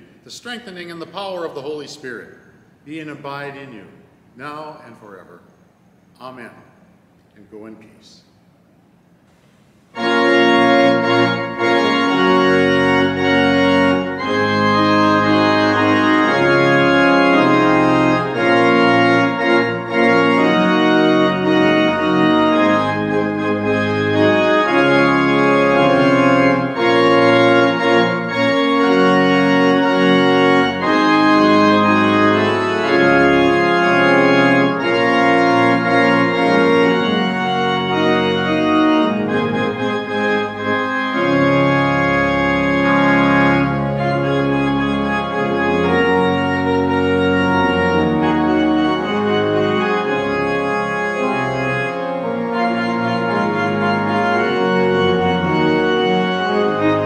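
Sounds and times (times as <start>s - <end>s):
pipe organ chords: 0.0s - 57.0s.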